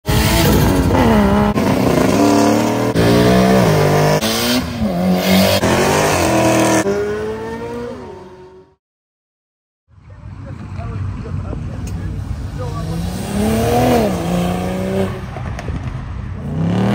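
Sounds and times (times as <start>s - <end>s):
car engines revving: 0.0s - 8.8s, 10.0s - 16.9s.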